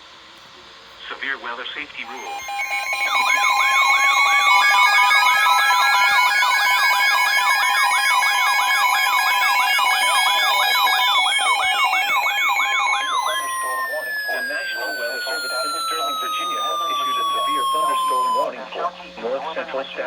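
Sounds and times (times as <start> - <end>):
fast yelp siren: 2.1 - 18.5
slow wail siren: 2.1 - 18.5
steady alert tones: 2.1 - 18.5.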